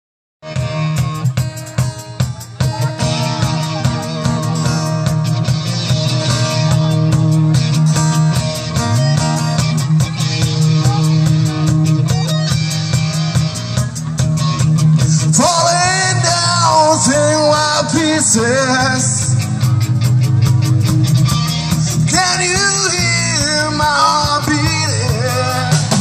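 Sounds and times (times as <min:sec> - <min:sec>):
drum kit cymbals: 0:00.4 - 0:16.2, 0:17.9 - 0:26.0
bass guitar: 0:00.4 - 0:26.0
electric guitar: 0:00.4 - 0:26.0
person singing: 0:02.2 - 0:07.3, 0:08.2 - 0:19.7, 0:21.3 - 0:26.0.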